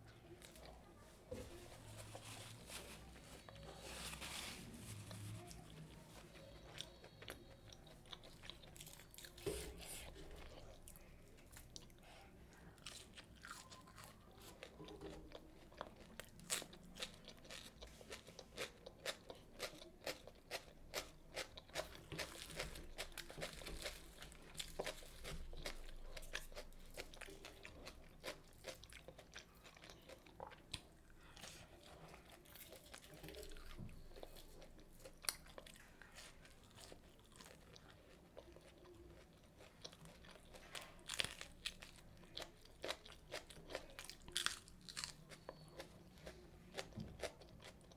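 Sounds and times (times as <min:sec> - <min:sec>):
person chewing crisp food: 0:01.8 - 0:47.9.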